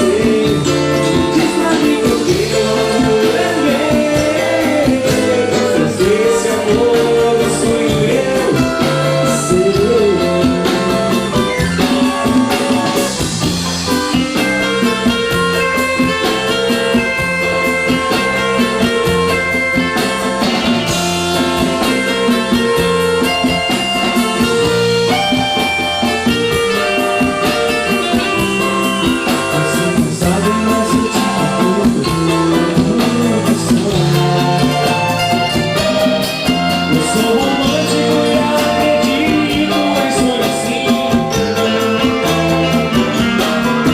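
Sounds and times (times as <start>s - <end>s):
bass line: 0.0s - 43.9s
drum kit beat: 0.0s - 43.9s
guitar: 0.0s - 43.9s.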